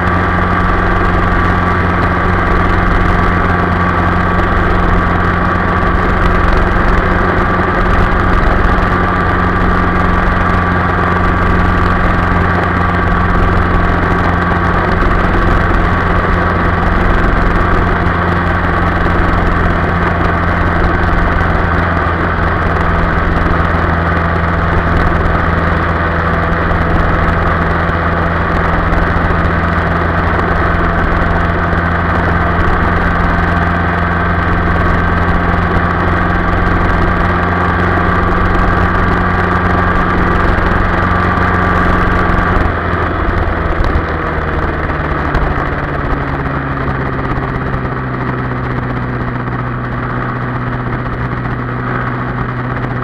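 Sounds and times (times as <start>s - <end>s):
motorcycle engine cruising: 0.0s - 53.0s
riding wind noise: 0.0s - 53.0s.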